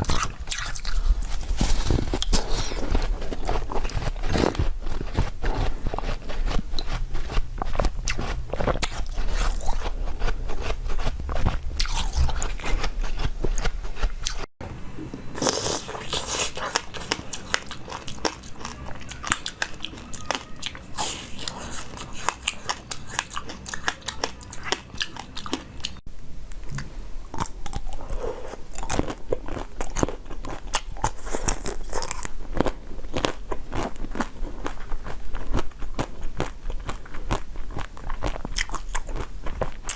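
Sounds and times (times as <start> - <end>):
crunchy biting and chewing: 0.0 - 14.5, 15.4 - 26.0, 26.6 - 39.9.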